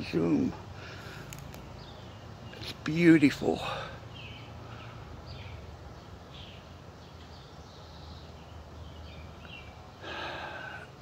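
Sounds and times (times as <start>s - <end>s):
low outdoor background noise: 0.0s - 11.0s.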